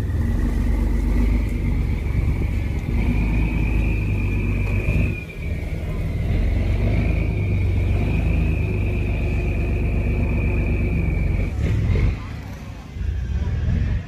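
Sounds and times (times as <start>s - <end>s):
boat diesel engine rumble: 0.0s - 14.0s
steady high whine: 0.0s - 14.0s.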